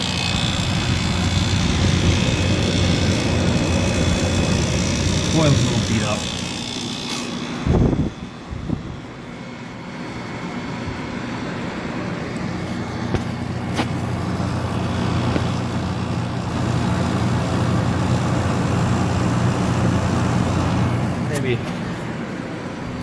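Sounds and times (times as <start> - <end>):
air conditioner compressor humming: 0.0 - 23.0
air conditioner fan blowing: 0.0 - 23.0.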